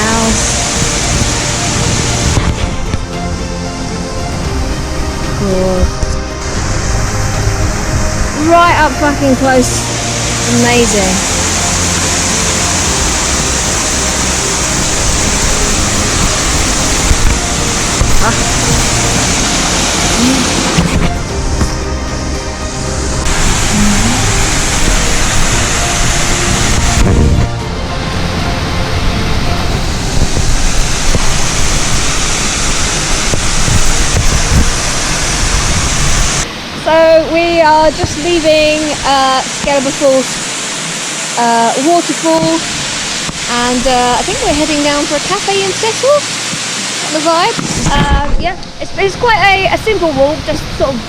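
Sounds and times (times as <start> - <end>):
waterfall rushing: 0.0 - 51.0
wind rumbling on microphone: 0.0 - 51.0.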